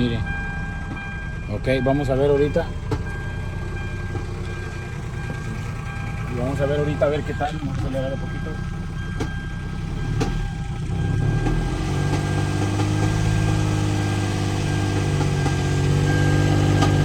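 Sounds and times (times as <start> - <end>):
car engine running rough: 0.0 - 17.0.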